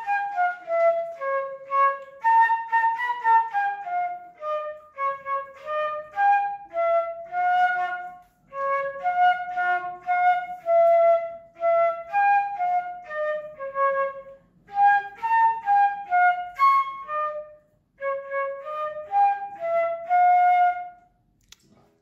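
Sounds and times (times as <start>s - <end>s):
solo flute melody: 0.0s - 21.2s.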